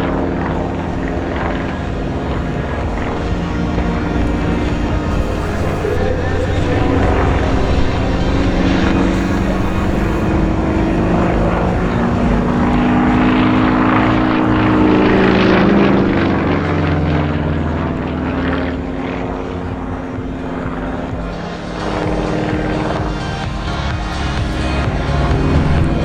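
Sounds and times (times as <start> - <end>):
propeller plane flying overhead: 0.0 - 26.0.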